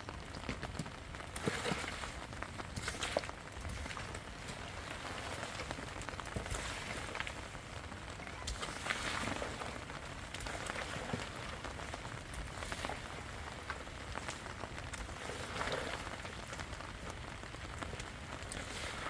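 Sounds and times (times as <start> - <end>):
rain drops striking a surface: 0.0 - 19.0.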